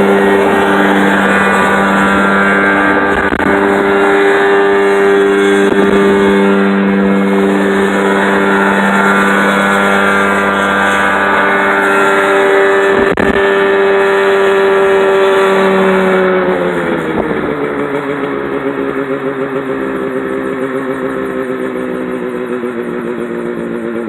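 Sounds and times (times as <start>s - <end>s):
helicopter engine humming: 0.0s - 24.0s.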